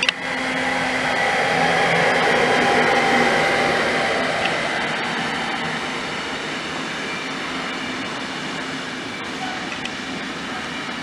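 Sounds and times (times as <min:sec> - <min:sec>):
locomotive tones: 0:00.0 - 0:11.0
train wagons rolling rush: 0:00.0 - 0:11.0.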